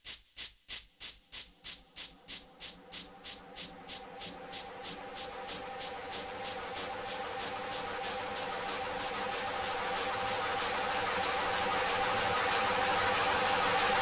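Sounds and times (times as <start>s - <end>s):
hiss: 0.0s - 14.0s
steady low hum: 0.8s - 14.0s
cricket chirping: 1.9s - 14.0s.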